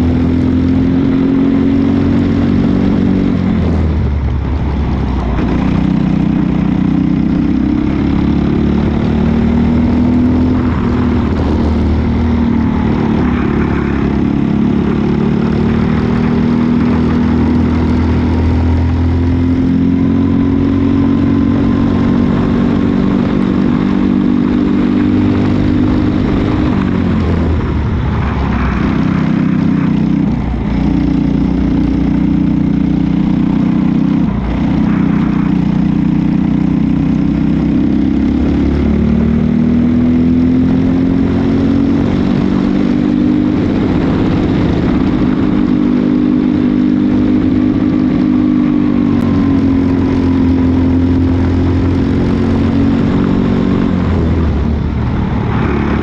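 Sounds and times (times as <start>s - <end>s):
kart engine revving: 5.2s - 56.0s.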